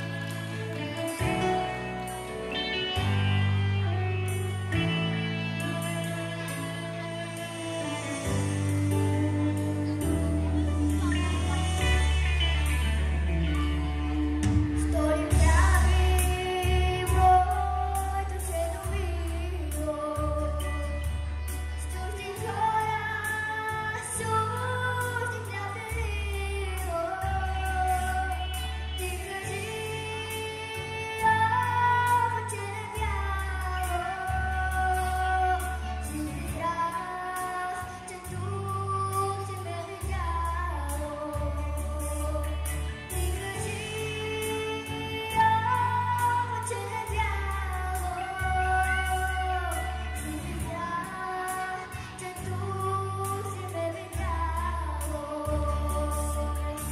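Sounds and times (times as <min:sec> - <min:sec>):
backing track with bass line: 0:00.0 - 0:56.9
girl singing into a microphone: 0:00.0 - 0:56.9.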